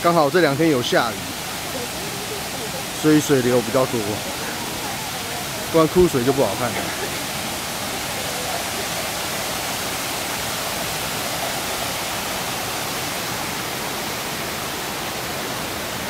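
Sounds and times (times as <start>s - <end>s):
rush of falling water: 0.0s - 16.0s.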